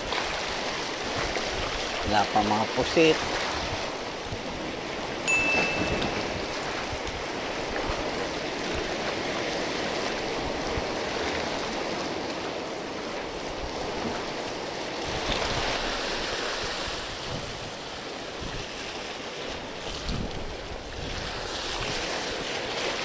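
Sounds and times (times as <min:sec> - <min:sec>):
sea waves washing on rocks: 0:00.0 - 0:05.3, 0:05.9 - 0:23.0.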